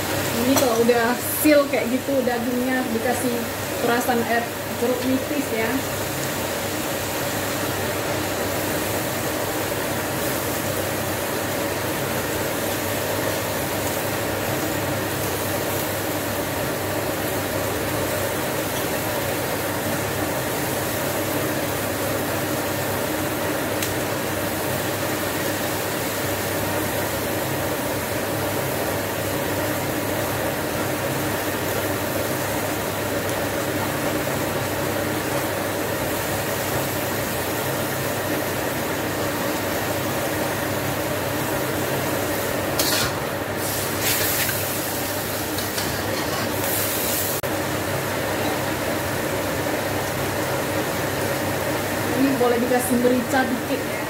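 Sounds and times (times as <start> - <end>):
extractor fan humming: 0.0 - 54.0
pork frying in wok: 0.0 - 54.0.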